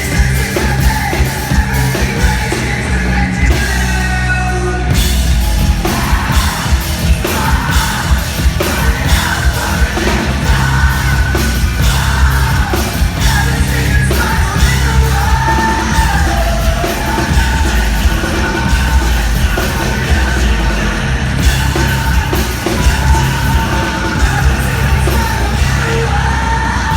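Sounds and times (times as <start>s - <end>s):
live rock band playing: 0.0s - 26.9s
screamed and sung vocals: 0.0s - 26.9s.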